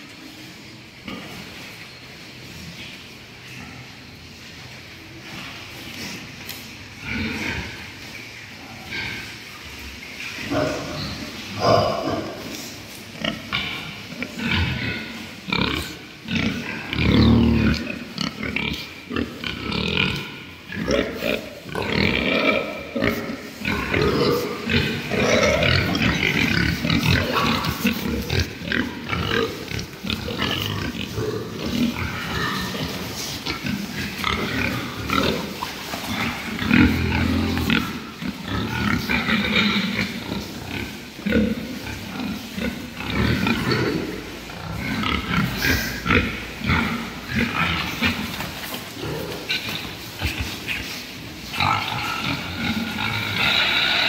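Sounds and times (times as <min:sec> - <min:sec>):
pigs grunting: 0:07.0 - 0:08.0, 0:10.4 - 0:54.0.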